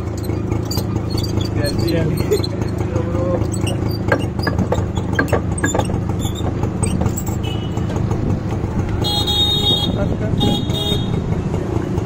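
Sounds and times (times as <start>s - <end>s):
engine idling: 0.0s - 12.0s
street traffic: 0.0s - 12.0s.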